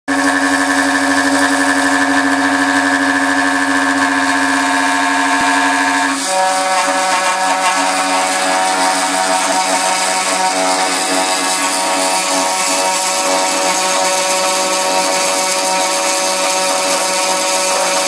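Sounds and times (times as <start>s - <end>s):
milling metal cutting noise: 0.1s - 18.0s
spindle whine: 0.1s - 18.0s.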